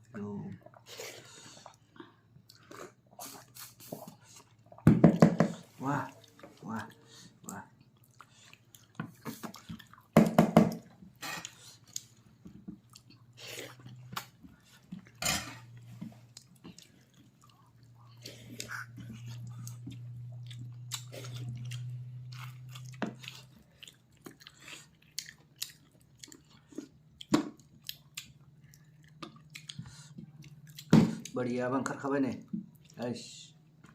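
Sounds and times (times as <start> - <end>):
chewing and crunching: 0.0 - 4.8, 5.7 - 10.2, 10.8 - 31.4, 32.4 - 33.9
low steady hum: 0.0 - 33.9.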